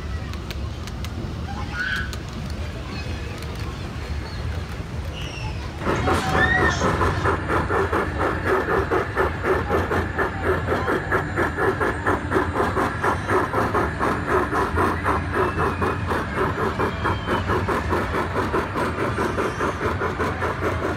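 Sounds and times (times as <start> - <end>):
model steam locomotive chuffing: 0.0 - 20.9.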